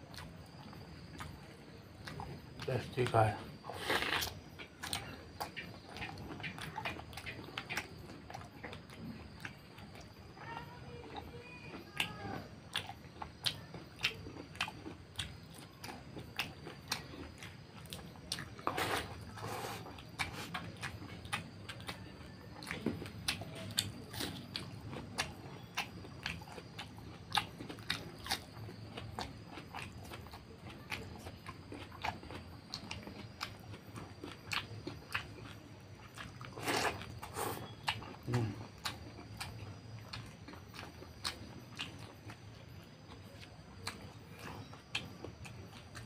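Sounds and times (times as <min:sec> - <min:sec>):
person chewing and lip-smacking: 0:00.1 - 0:10.1, 0:11.1 - 0:46.0.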